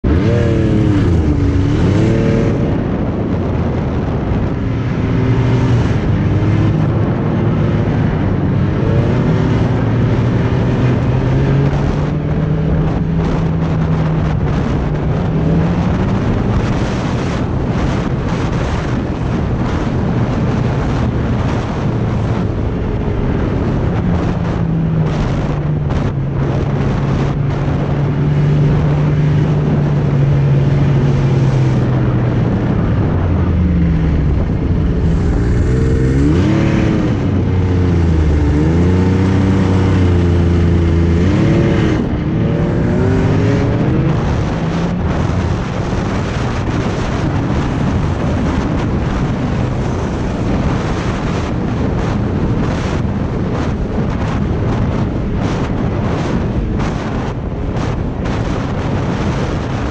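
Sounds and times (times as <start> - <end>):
snowmobile engine running: 0.0 - 59.9
wind noise on microphone: 0.0 - 59.9.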